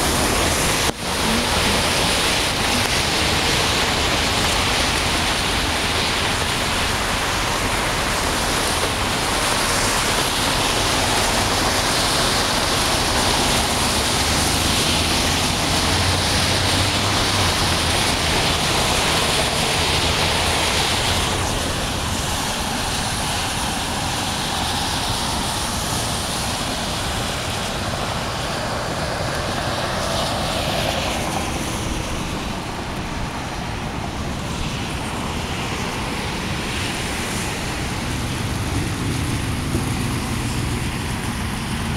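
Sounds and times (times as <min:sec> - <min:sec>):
tyres hissing through water: 0:00.0 - 0:41.9.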